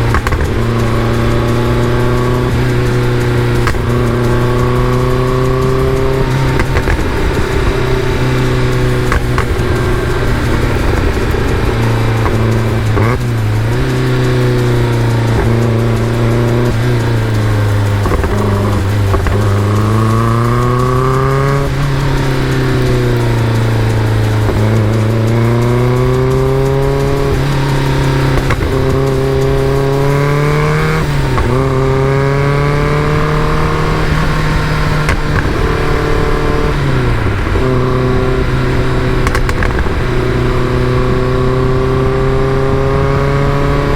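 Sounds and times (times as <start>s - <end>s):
car engine revving through gears: 0.0s - 43.9s.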